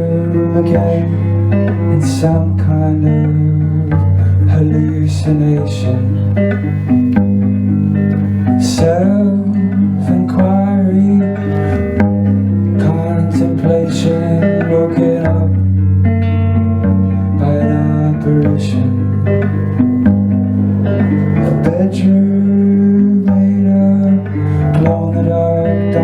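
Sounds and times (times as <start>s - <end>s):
held bass notes: 0.0s - 26.0s
plucked guitar notes: 0.0s - 26.0s.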